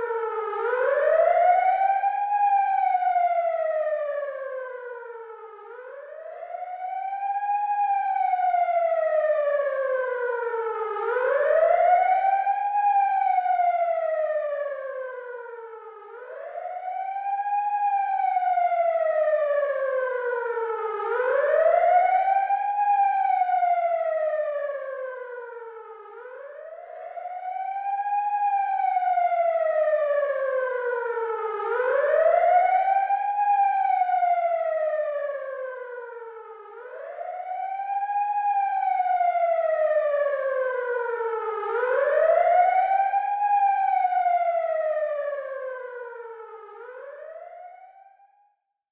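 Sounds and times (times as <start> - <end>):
ambulance siren wailing: 0.0 - 48.2.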